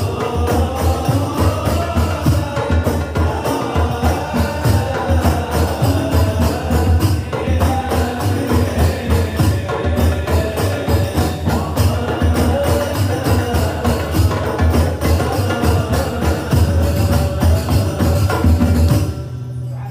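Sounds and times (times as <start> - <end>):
frame drums playing fast rhythm: 0.0 - 19.2
voices singing: 0.0 - 19.9.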